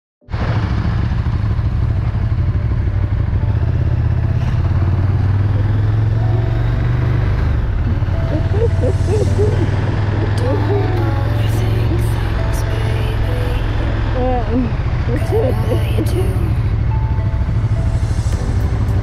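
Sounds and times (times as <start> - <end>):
motorcycle engine running: 0.3 - 19.0.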